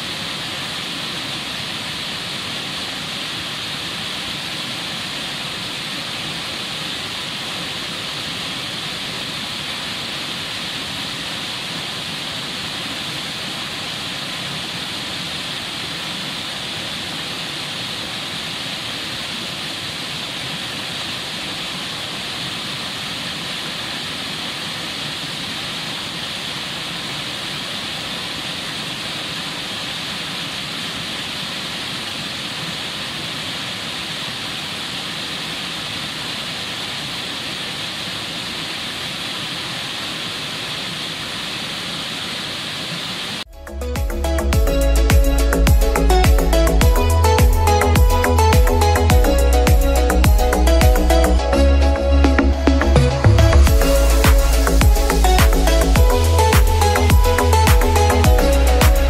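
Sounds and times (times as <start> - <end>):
water rushing over rocks: 0.0 - 43.5, 44.5 - 59.0.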